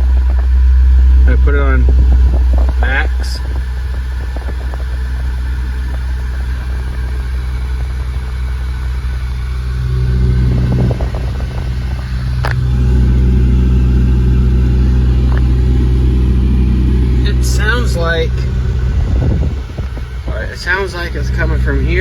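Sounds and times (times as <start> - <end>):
blower fan droning: 0.0 - 22.0
car engine idling: 0.0 - 22.0.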